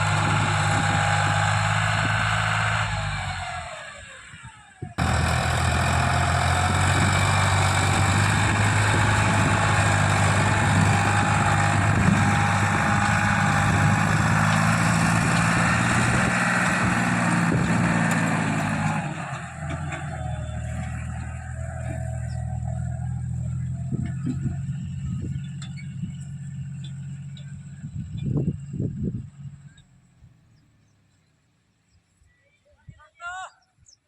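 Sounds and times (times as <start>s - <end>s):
tractor diesel engine running: 0.0s - 31.2s.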